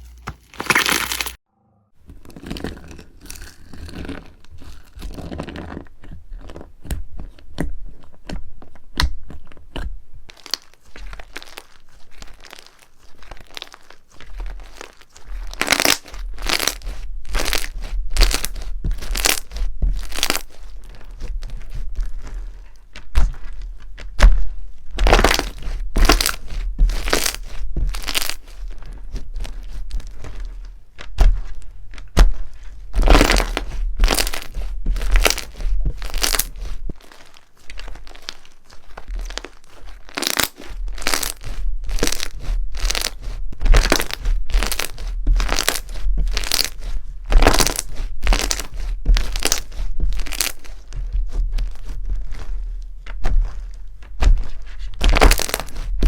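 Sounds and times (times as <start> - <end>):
crunchy slime crackling: 2.4 - 56.0.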